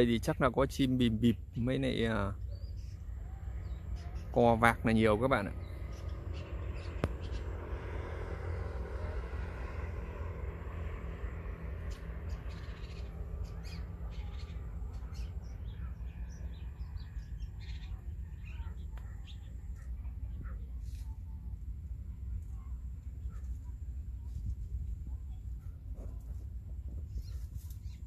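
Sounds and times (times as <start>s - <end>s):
wild birds chirping: 0.0s - 24.4s, 25.0s - 28.0s
steady low rumble: 0.0s - 28.0s.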